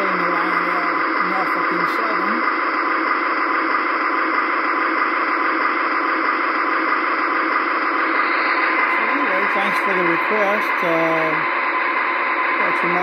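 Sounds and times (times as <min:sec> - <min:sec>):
model trains whirring: 0:00.0 - 0:13.0.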